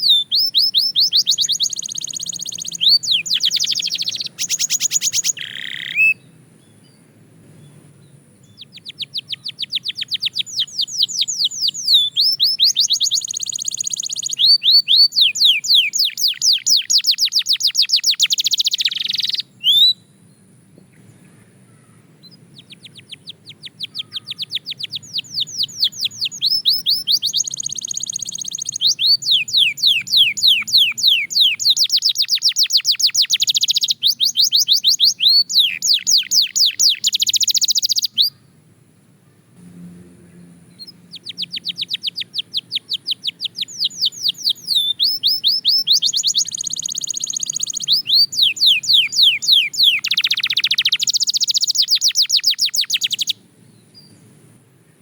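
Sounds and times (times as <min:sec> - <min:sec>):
canary singing: 0:00.0 - 0:07.0, 0:07.6 - 0:20.2, 0:22.0 - 0:38.6, 0:40.3 - 0:54.2.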